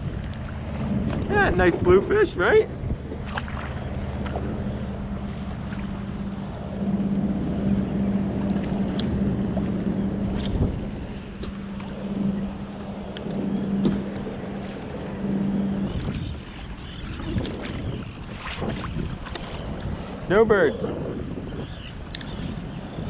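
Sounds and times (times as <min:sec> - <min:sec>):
distant boat engine humming: 0:00.0 - 0:23.0
water noise: 0:00.0 - 0:23.0
wind: 0:00.0 - 0:23.0.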